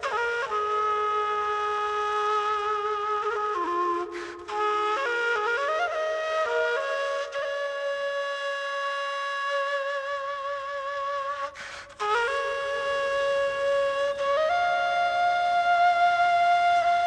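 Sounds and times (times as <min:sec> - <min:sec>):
end-blown flute melody: 0:00.0 - 0:17.0.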